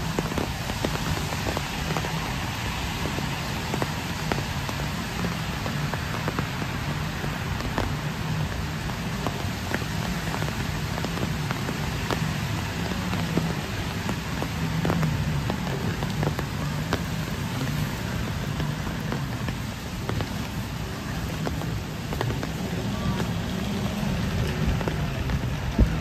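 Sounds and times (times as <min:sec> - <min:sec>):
rain falling on pavement and trees: 0:00.0 - 0:26.0.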